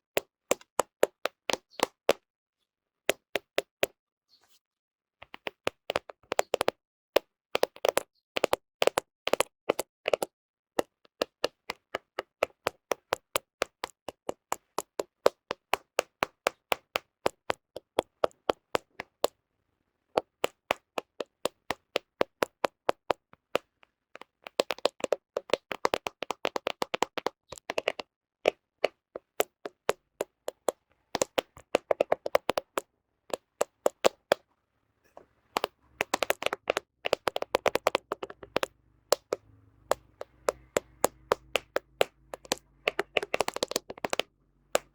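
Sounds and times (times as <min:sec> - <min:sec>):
fingernails tapping on phone: 0:05.2 - 0:19.4, 0:20.2 - 0:34.4, 0:35.1 - 0:44.9.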